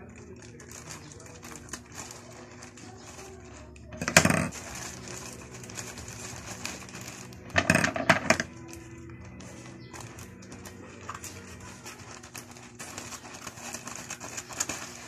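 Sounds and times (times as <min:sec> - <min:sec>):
loud plastic rustling: 0:00.0 - 0:15.0
plastic bag clicks and rustles: 0:00.0 - 0:15.0.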